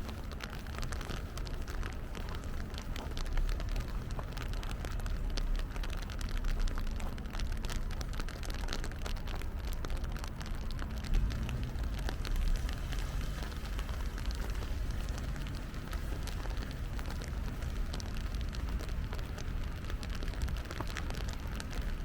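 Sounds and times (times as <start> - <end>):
rain falling on street: 0.0 - 22.0.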